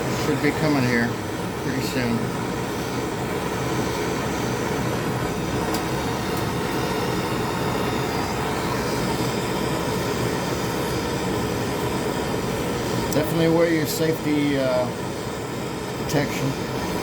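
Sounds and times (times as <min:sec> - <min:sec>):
gas torch flame hissing: 0:00.0 - 0:17.0
room fans running: 0:00.0 - 0:17.0.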